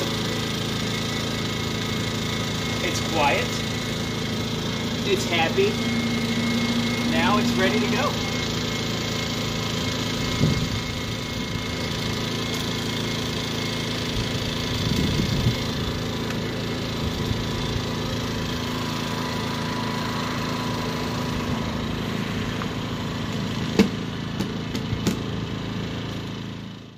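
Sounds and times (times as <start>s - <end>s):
generator engine running: 0.0s - 26.9s.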